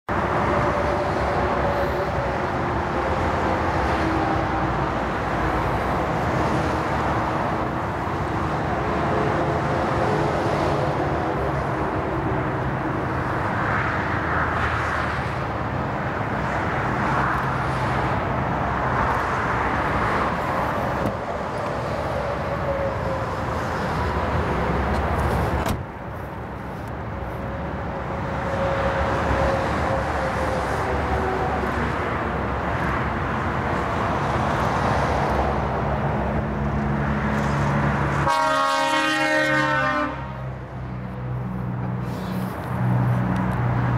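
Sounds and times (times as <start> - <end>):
vehicles passing at speed: 0.1 - 43.9.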